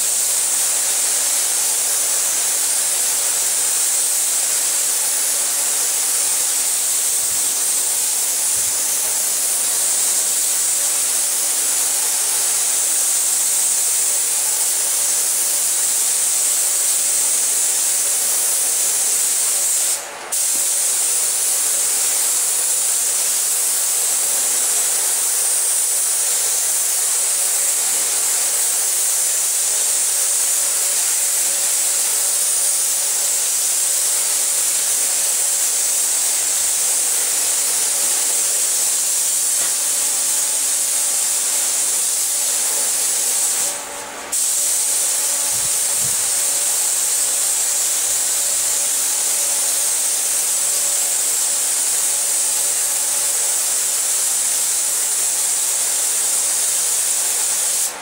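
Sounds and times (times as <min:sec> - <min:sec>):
paint spray gun hissing: 0:00.0 - 0:58.0.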